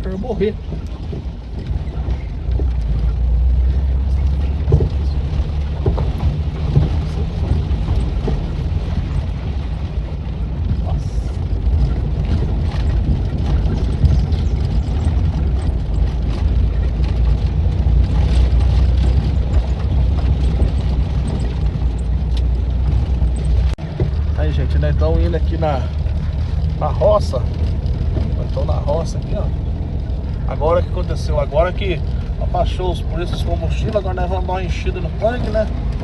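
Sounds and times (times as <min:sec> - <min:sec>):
car engine and tyres rumbling: 0:00.0 - 0:36.0
suspension knocks and rattles: 0:00.0 - 0:36.0.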